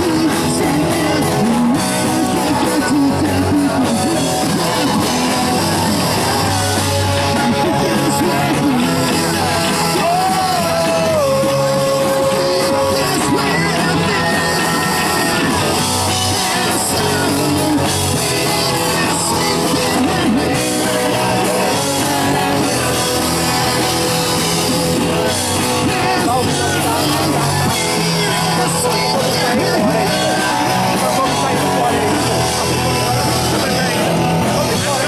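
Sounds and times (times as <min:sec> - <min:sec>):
punk band playing live: 0:00.0 - 0:35.0.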